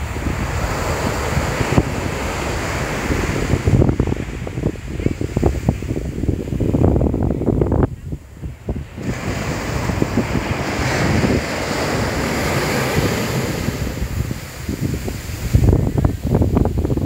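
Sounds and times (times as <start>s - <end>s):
wave breaking and washing up sand: 0.0s - 17.0s
wind buffeting microphone: 0.0s - 17.0s.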